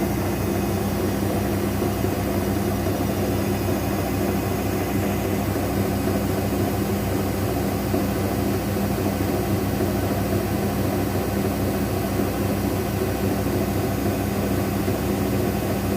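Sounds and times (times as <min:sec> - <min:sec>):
washing machine spinning: 0:00.0 - 0:15.9.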